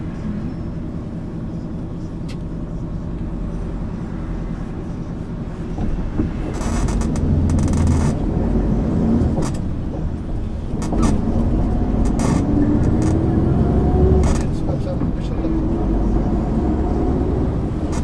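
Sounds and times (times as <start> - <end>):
bus diesel engine running: 0.0 - 18.0.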